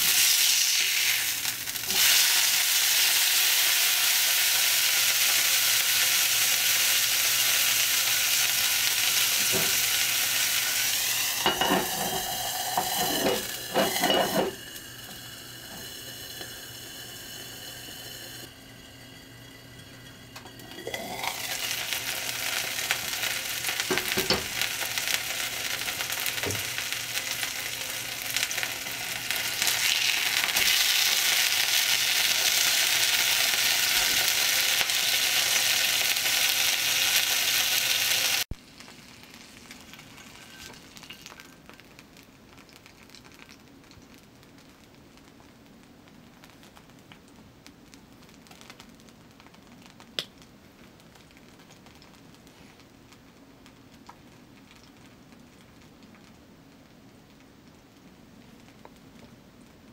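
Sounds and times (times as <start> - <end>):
meat patty sizzling in skillet: 0.0 - 59.3.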